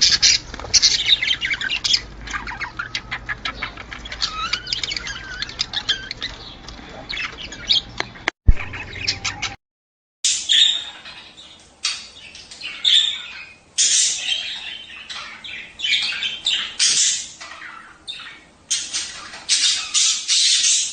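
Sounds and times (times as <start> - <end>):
budgerigars chirping and warbling: 0.0 - 9.6, 10.3 - 20.9.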